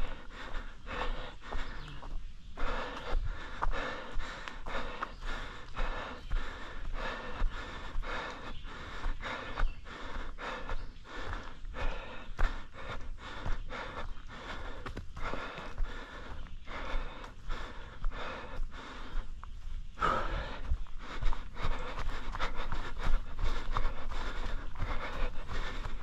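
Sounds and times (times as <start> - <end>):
runner panting: 0.0 - 26.0.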